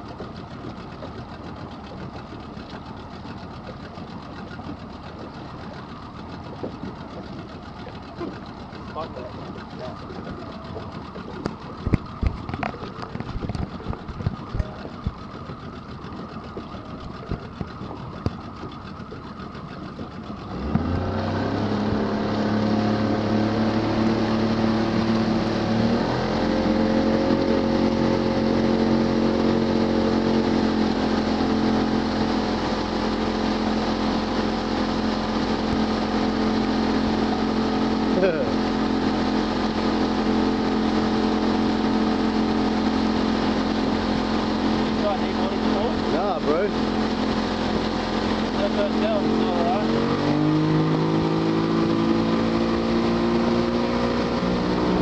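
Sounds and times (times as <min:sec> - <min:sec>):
boat engine: 0:00.0 - 0:55.0.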